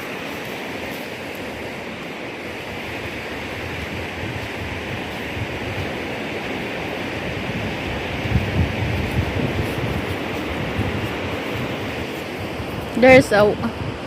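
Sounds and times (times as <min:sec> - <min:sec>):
surf washing on beach: 0:00.0 - 0:14.0.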